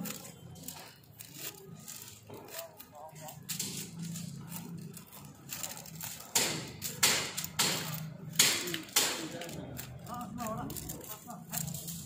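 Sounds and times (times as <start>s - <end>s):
arrows scraping out of straw target: 0.0s - 12.0s.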